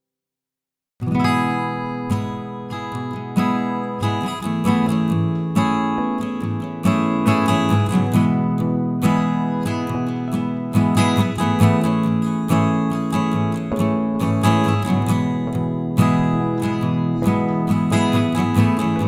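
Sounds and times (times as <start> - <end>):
acoustic guitar playing: 1.0 - 19.0.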